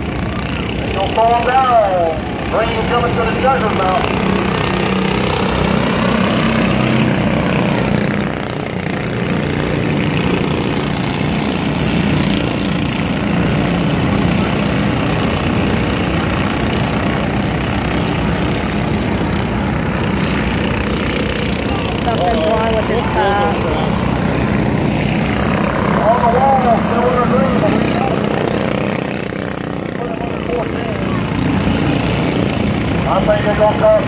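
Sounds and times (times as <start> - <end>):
racing car engines droning: 0.0 - 34.0.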